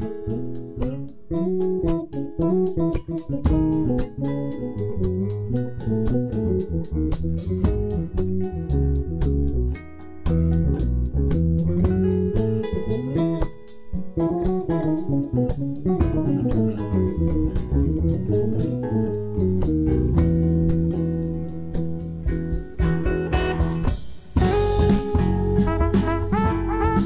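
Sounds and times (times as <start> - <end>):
bass guitar: 0.0 - 27.0
drum kit steady beat: 0.0 - 27.0
guitars: 0.0 - 27.0.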